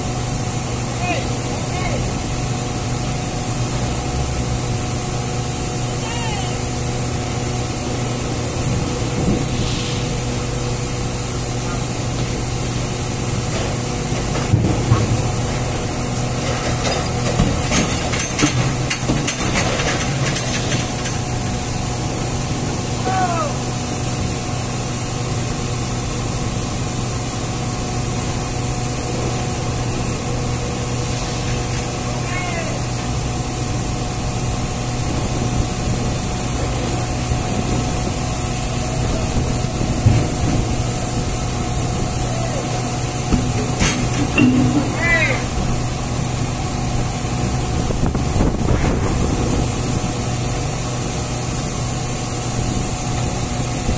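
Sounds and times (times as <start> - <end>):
constant hiss: 0.0 - 53.9
machinery hum: 0.0 - 53.9.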